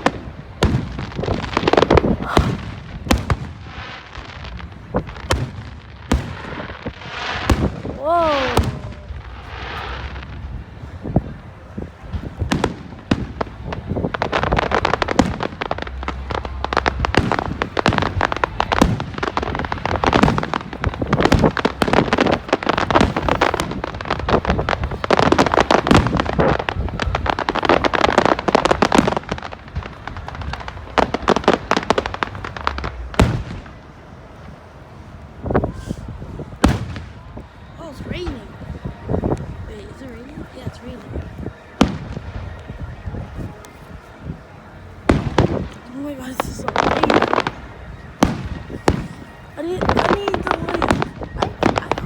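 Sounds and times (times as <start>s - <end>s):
deep fireworks booms: 0.0s - 52.0s
fireworks crackling and popping: 0.0s - 52.0s.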